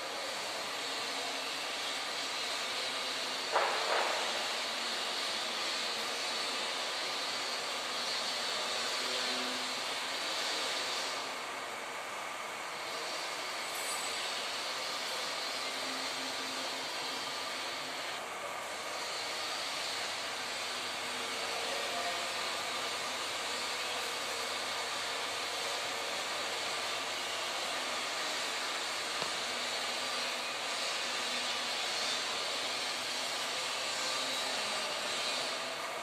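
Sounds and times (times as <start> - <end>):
rushing workshop noise: 0.0 - 36.0.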